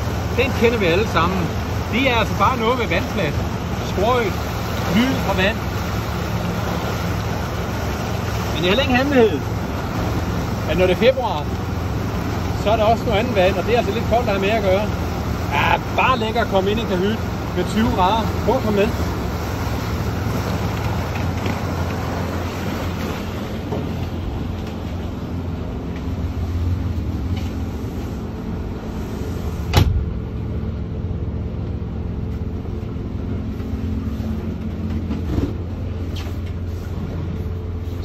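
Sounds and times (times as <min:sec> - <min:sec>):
outboard engine drone: 0:00.0 - 0:38.0
water rushing along hull: 0:00.0 - 0:38.0.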